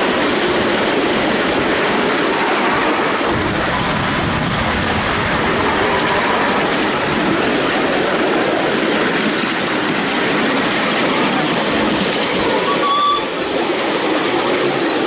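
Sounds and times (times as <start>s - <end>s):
faint rail clicks: 0.0s - 15.0s
train wheels on rails: 0.0s - 15.0s.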